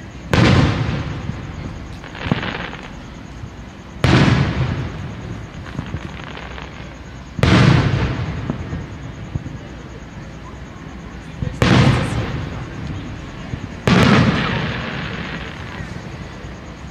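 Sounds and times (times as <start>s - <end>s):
firework crackles: 0.0s - 16.9s
fireworks booming: 0.0s - 16.9s.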